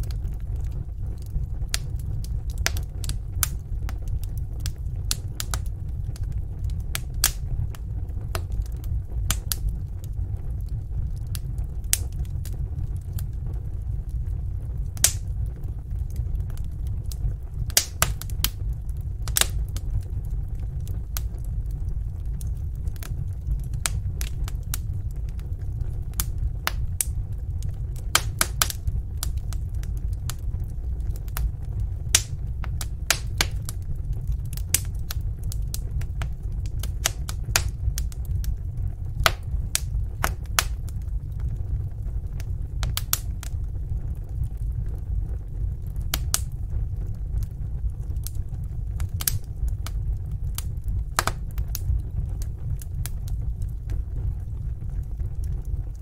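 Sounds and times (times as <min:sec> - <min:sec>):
fire pops and snaps: 0:00.0 - 0:56.0
fire rumbling: 0:00.0 - 0:56.0.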